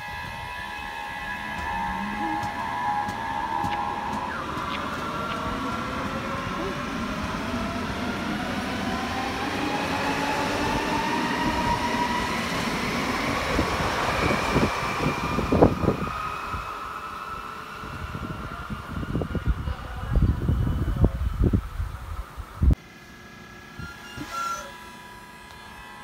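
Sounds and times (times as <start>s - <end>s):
electric train motor whine: 0.0s - 26.0s
rail rumble: 0.0s - 26.0s.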